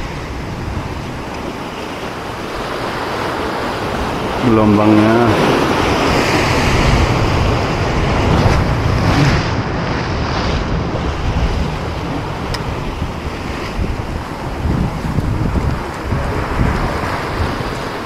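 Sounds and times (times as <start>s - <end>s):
waves breaking against rocks: 0.0s - 18.0s
wind rumbling on microphone: 0.0s - 18.0s.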